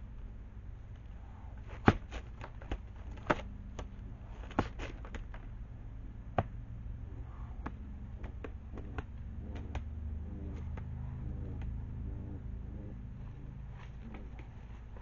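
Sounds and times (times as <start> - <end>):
steady low hum: 0.0 - 15.0
skunk stamping feet: 0.7 - 15.0
skunk growling: 0.9 - 15.0.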